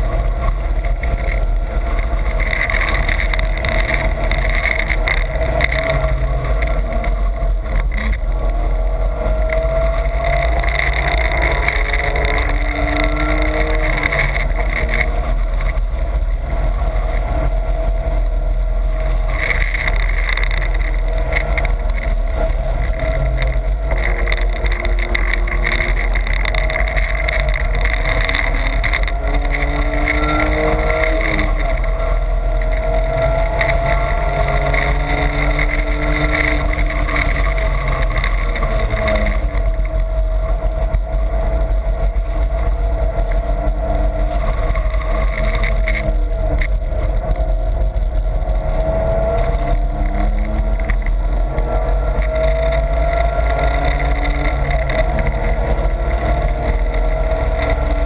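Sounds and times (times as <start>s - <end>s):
car engine revving: 0.0s - 58.0s
road and wind rumble: 0.0s - 58.0s.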